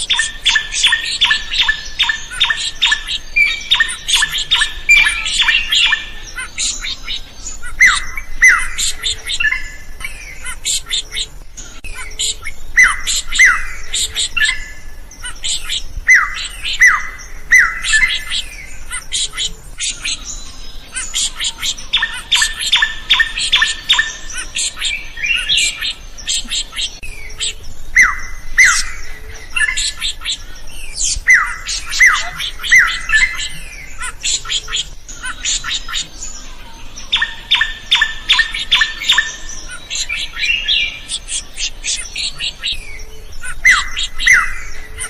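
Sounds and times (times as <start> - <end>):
bird singing: 0.0 - 45.0.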